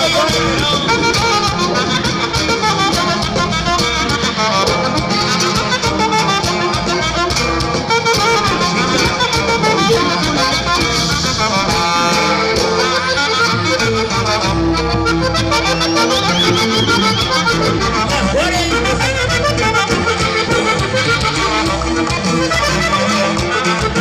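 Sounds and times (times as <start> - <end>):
accordion: 0.0 - 24.0
bass: 0.0 - 24.0
saxophone: 0.0 - 24.0.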